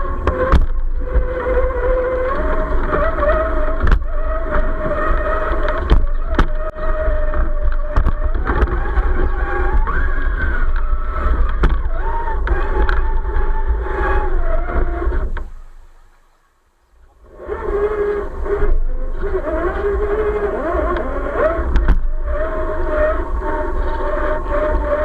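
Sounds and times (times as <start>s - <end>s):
toy car motor whining: 0.0s - 15.8s, 17.2s - 25.0s.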